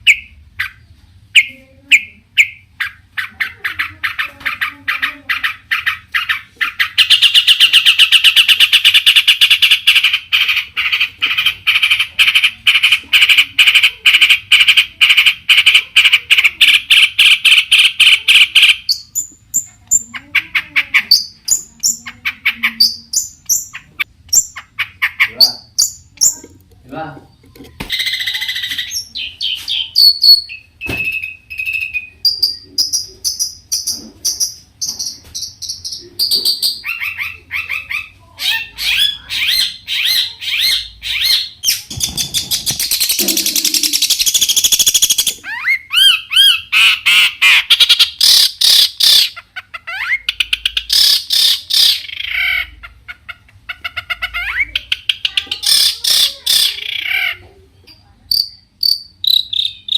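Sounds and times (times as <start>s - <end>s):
bird singing varied song: 0.0s - 52.9s, 54.1s - 59.9s
harsh rapid bird chatter: 0.0s - 59.9s.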